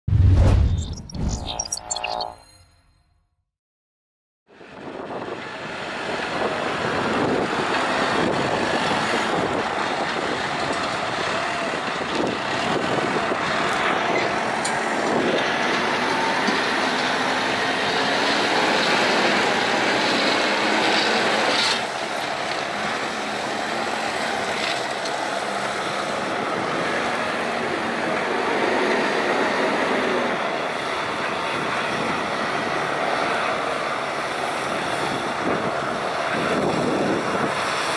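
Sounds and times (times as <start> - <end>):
diesel engine running under load: 4.6 - 37.9.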